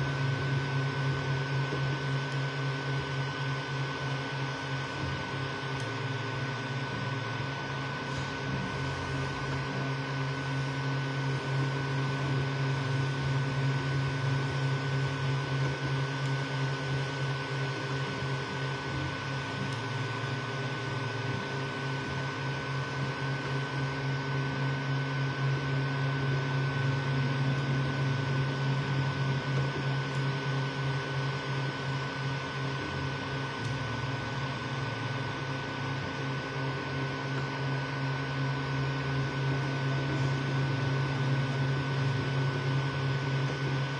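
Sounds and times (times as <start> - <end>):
printer fans and motors humming: 0.0 - 43.9.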